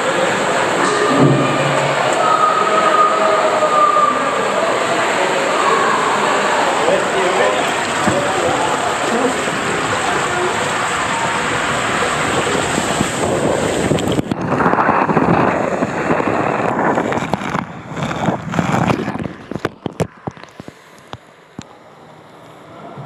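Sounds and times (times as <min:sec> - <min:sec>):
rushing water in water slide: 0:00.0 - 0:23.0.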